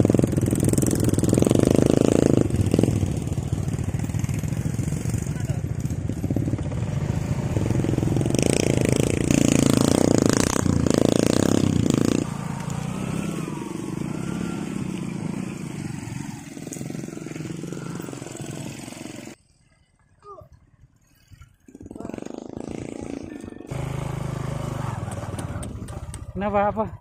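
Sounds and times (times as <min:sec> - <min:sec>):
small motorcycle engine revving: 0:00.0 - 0:19.4, 0:21.7 - 0:26.6.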